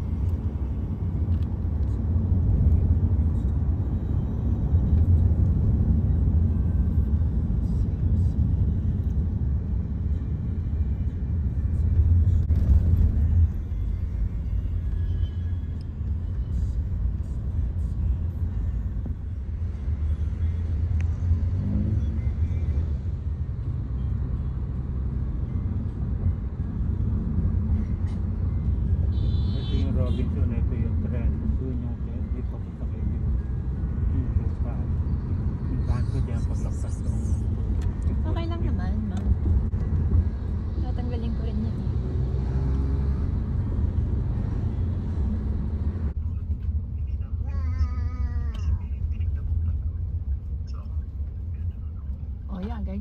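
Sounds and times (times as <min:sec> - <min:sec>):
car road rumble: 0:00.0 - 0:53.0.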